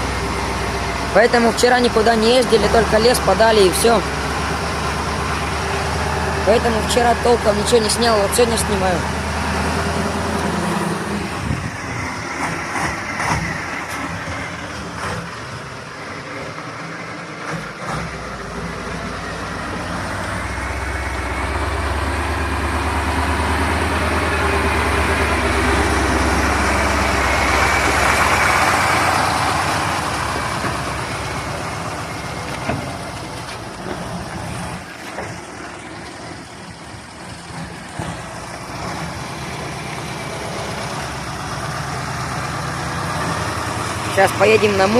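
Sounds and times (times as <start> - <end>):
truck diesel engine running: 0.0 - 44.9.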